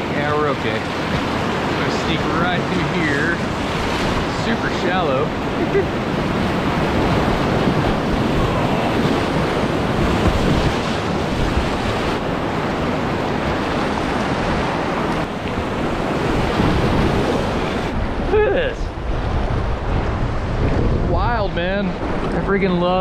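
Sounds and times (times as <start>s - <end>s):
whitewater rapid rushing: 0.0s - 21.2s.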